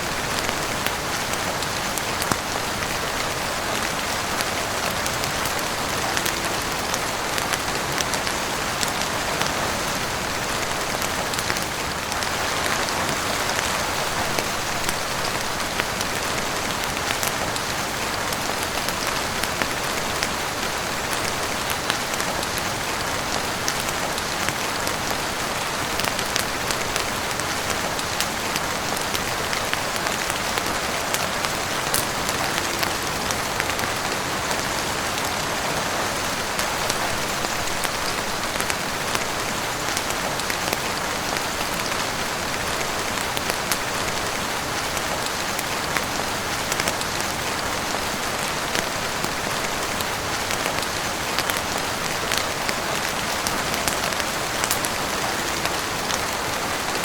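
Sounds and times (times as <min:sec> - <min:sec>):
heavy rain on roof and windows: 0:00.0 - 0:57.0
sharp rain ticks: 0:00.0 - 0:57.0.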